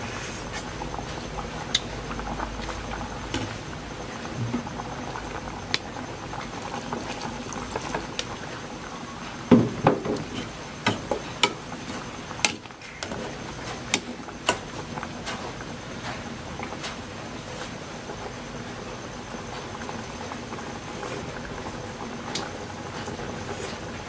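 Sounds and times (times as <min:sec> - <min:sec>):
soup boiling and bubbling: 0:00.0 - 0:24.0.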